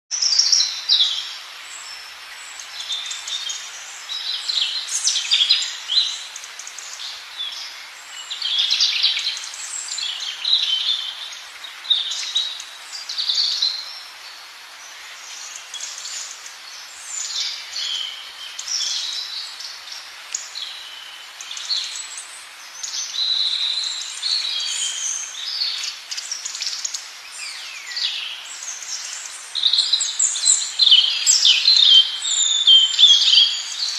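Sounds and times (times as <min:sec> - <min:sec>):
faint steady hiss: 0:00.1 - 0:33.9.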